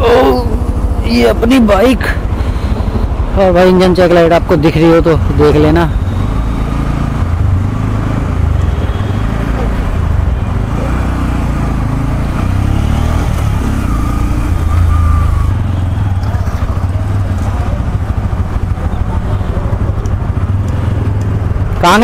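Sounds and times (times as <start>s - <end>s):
motorcycle engine at low revs: 0.0s - 3.6s, 5.2s - 21.9s.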